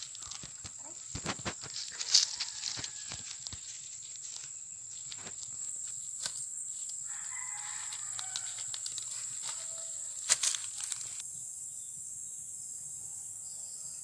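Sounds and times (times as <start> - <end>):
footsteps on dry leaves: 0.0 - 11.2
high-pitched insect drone: 0.0 - 14.0.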